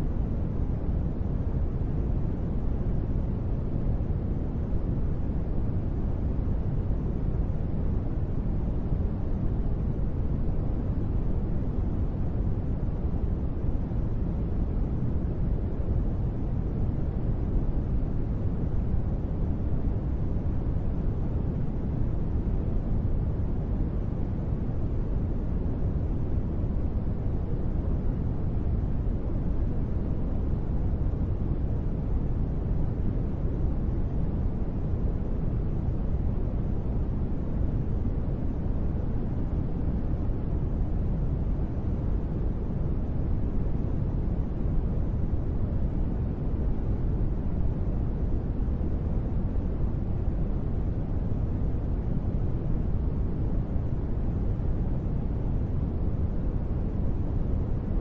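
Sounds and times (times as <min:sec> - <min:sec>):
deep white noise: 0:00.0 - 0:58.0.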